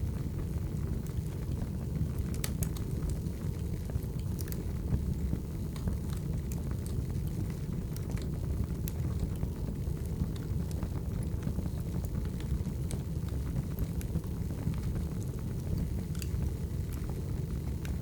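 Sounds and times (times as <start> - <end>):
burning logs crackling: 0.0 - 18.0
low rumble of flames: 0.0 - 18.0.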